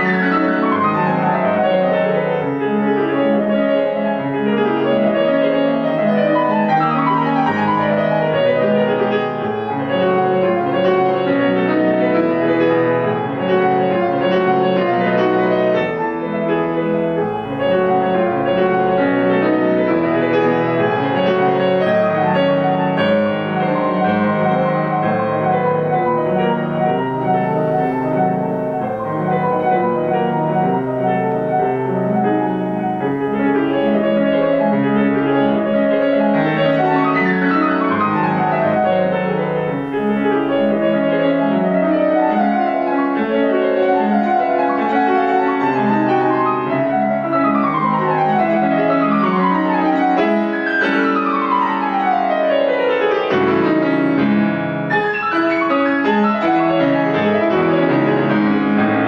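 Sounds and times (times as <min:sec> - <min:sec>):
fast classical piano: 0:00.0 - 0:59.0.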